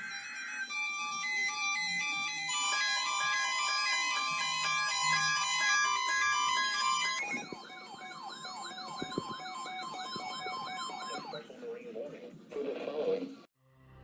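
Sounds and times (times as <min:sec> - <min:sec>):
electronic melody: 0:00.0 - 0:11.4
warbling electronic siren: 0:00.0 - 0:11.4.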